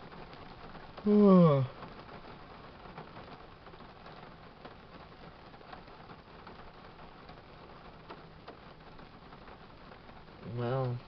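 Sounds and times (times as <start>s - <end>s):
rain on a car roof: 0.0s - 11.0s
raindrops tapping: 0.0s - 11.0s.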